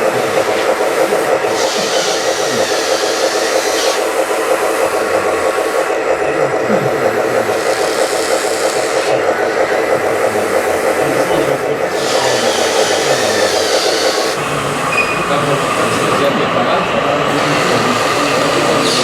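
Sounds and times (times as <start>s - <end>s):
loud engine-like running noise: 0.0s - 19.0s.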